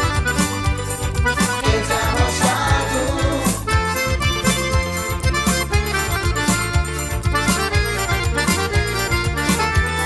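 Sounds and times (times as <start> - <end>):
accordion melody: 0.0 - 10.0
bass: 0.0 - 10.0.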